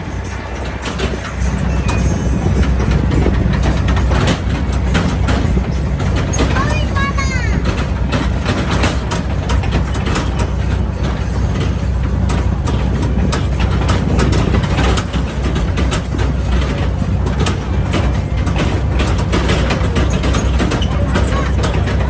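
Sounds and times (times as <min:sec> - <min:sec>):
rattling and knocking: 0:00.0 - 0:22.0
tractor engine droning: 0:00.0 - 0:22.0.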